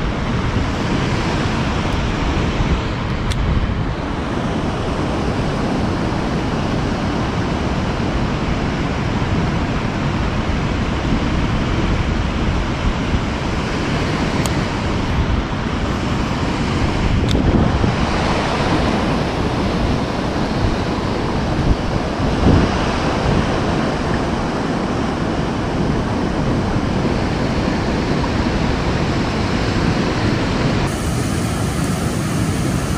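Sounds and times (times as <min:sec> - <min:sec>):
waterfall and river rushing: 0:03.8 - 0:32.9.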